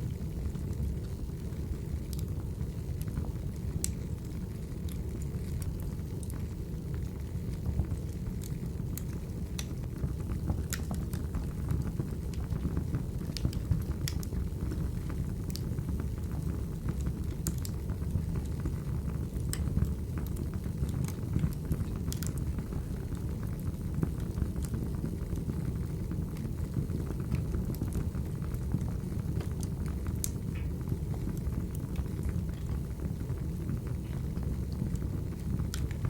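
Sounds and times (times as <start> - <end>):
fire crackles and pops: 0.0 - 36.0
fire low rumble: 0.0 - 36.0.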